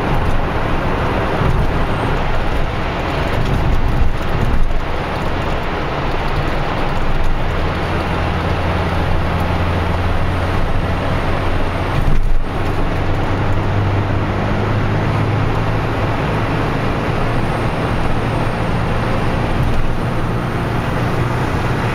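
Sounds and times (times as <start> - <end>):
car engine hum: 0.0 - 21.9
tyre and wind noise: 0.0 - 21.9.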